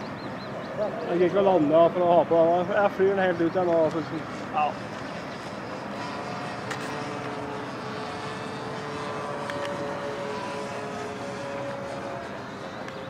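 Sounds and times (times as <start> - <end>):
model plane propeller droning: 0.0 - 13.0.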